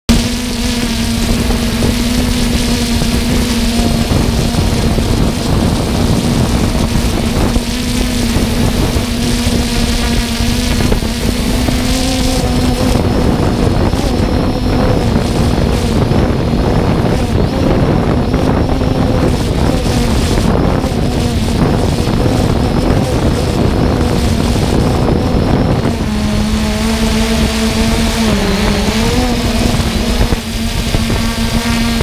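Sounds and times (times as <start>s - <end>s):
air buffeting microphone: 0.1s - 32.0s
drone motors humming: 0.1s - 32.0s.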